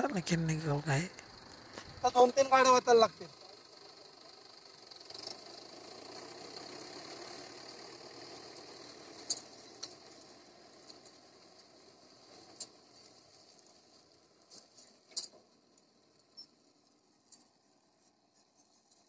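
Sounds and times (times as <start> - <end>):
tractor diesel engine passing: 0.0 - 18.8.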